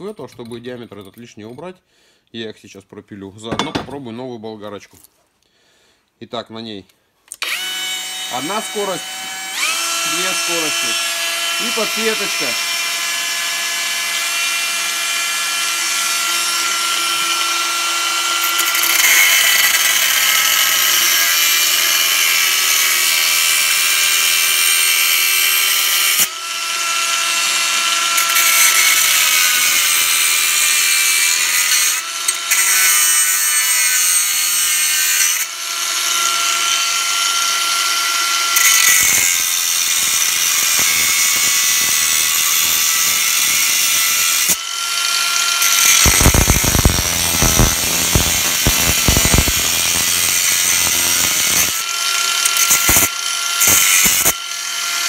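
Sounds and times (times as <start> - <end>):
angle grinder whine cutting pipe: 7.4 - 55.0.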